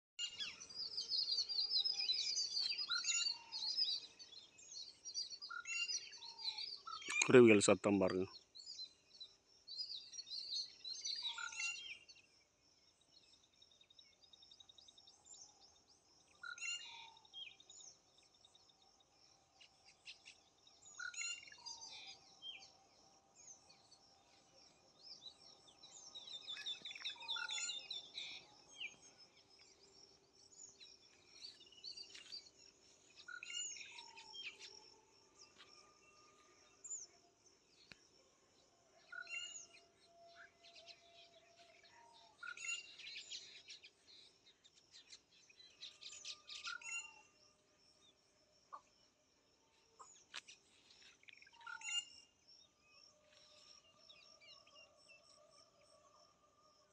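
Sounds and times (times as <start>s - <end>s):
small birds chirping and singing: 0.2s - 56.9s.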